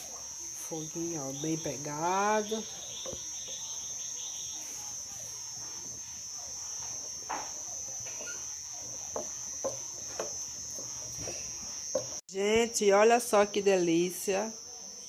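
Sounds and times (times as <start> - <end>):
wood fire crackling: 0.0 - 12.2
crickets trilling: 0.0 - 15.0.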